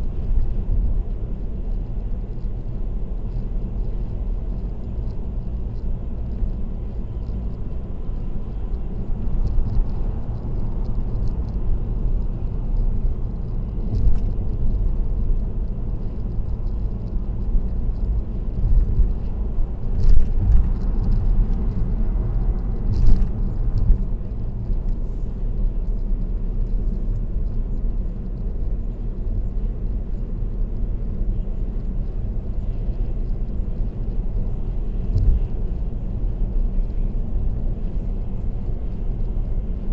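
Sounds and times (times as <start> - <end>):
car engine: 0.0 - 39.9
road and tyre rumble: 0.0 - 39.9.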